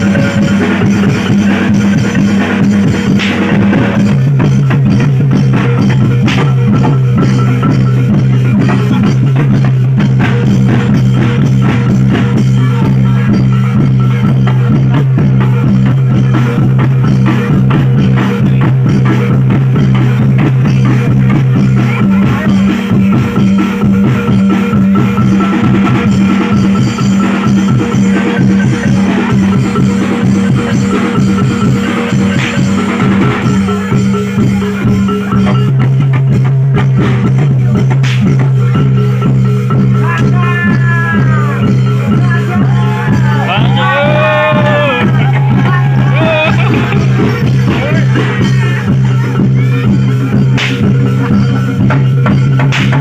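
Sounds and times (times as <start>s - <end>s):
drums in driving rhythm: 0.0s - 53.0s.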